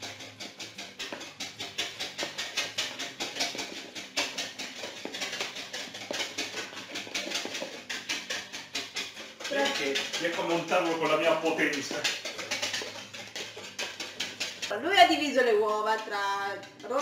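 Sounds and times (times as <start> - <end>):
utensil stirring in plastic bowl: 0.0 - 17.0.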